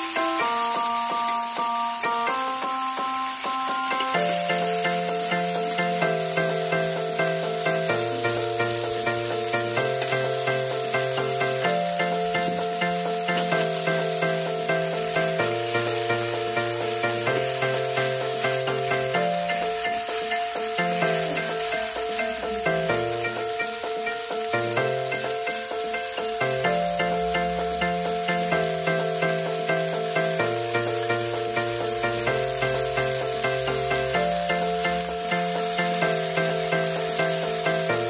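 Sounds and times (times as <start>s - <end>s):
instrumental music: 0.0s - 38.0s
vegetables sizzling in a pan: 0.0s - 38.0s.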